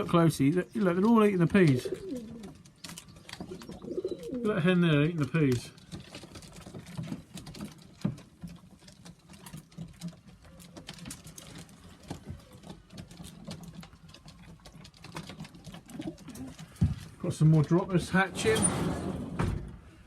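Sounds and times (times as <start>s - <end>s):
pigeons pecking at feed: 0.0s - 18.2s.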